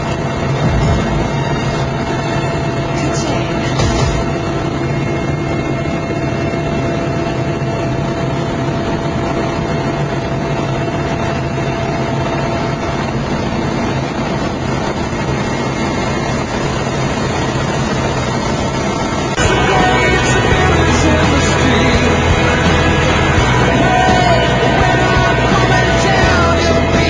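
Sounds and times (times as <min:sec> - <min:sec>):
constant whining tones: 0:00.0 - 0:27.0
helicopter engines and rotor: 0:00.0 - 0:27.0.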